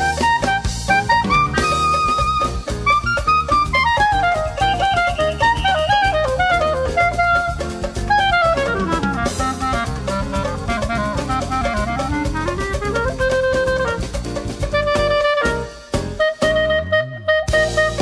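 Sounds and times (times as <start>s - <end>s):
backing track of drums and bass: 0.0s - 18.0s
clarinet playing samba melody: 0.0s - 18.0s.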